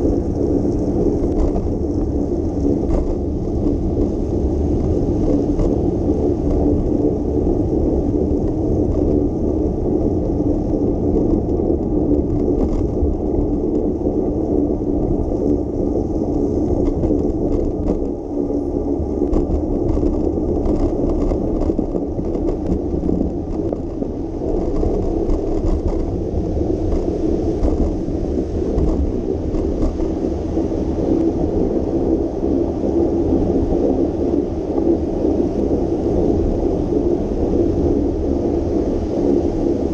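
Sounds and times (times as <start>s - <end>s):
bicycle rolling on wet road: 0.0s - 39.9s
wind on microphone: 0.0s - 39.9s.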